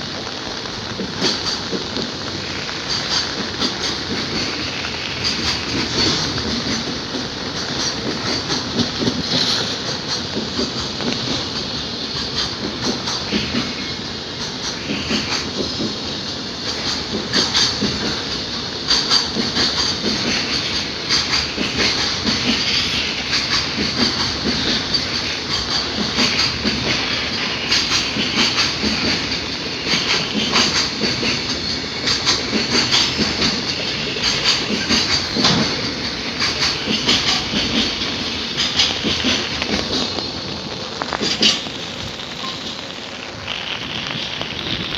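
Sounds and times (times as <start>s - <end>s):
freight train rolling past: 0.0s - 44.9s
wheels clacking over rail joints: 0.0s - 44.9s.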